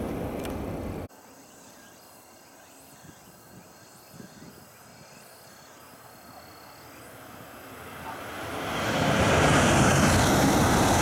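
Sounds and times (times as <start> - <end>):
thin steady high hum: 0.0 - 11.0.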